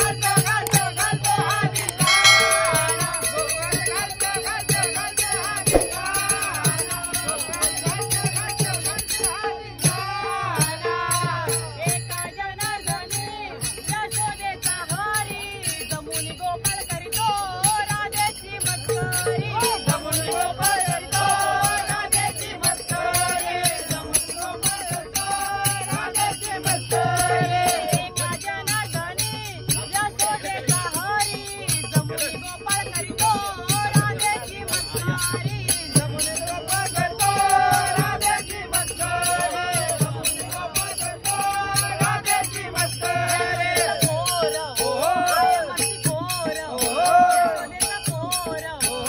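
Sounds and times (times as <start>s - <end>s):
fast metallic jingling beat: 0.0s - 49.0s
men singing devotional song: 0.0s - 49.0s.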